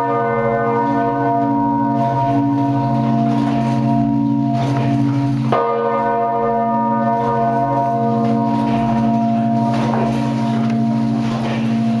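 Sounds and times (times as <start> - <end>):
church bells ringing: 0.0 - 12.0.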